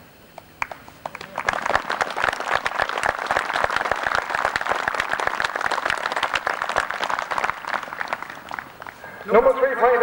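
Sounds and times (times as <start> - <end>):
crowd applauding: 0.6 - 10.0.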